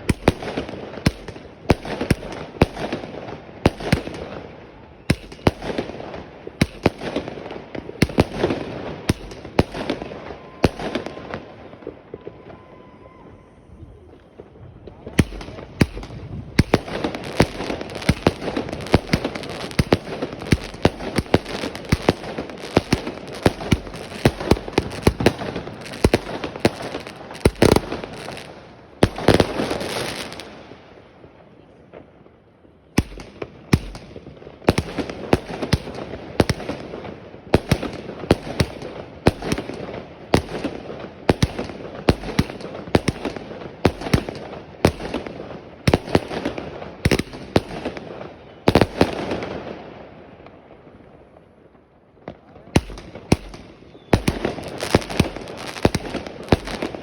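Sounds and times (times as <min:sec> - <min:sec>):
fireworks banging: 0:00.0 - 0:30.8, 0:33.0 - 0:49.8, 0:52.3 - 0:57.0.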